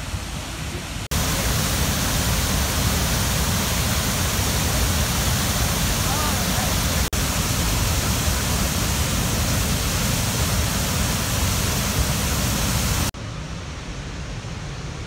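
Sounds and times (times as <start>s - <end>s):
dull rush of water: 0.0s - 15.0s
waterfall roaring: 0.0s - 15.0s.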